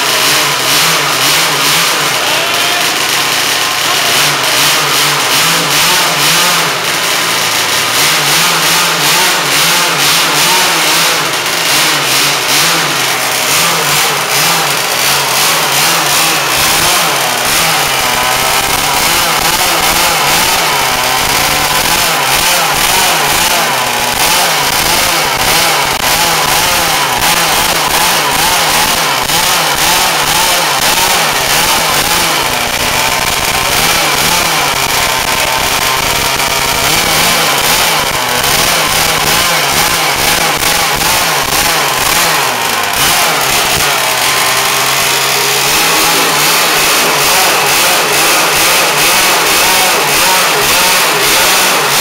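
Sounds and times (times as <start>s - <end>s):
two-stroke engine revving: 0.0s - 52.0s.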